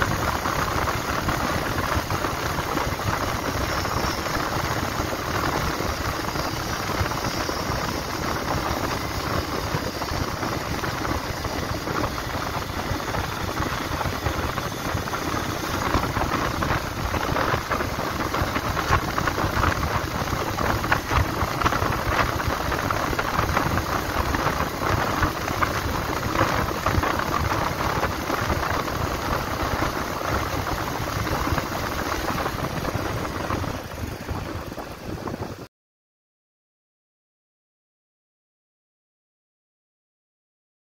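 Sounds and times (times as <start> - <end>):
motorcycle engine running: 0.0 - 35.7
wind and road noise: 0.0 - 35.7.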